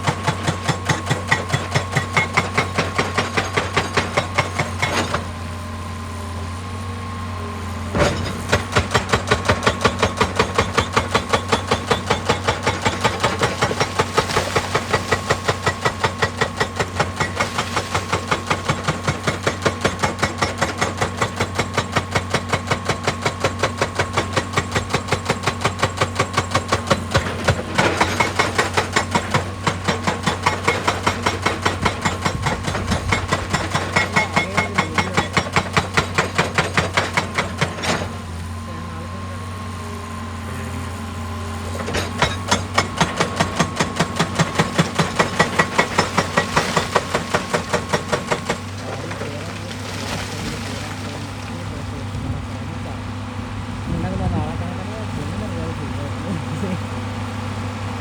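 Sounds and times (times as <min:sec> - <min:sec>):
hydraulic breaker hammering rock: 0:00.0 - 0:05.8, 0:07.6 - 0:53.2
excavator engine drone: 0:00.0 - 0:58.0.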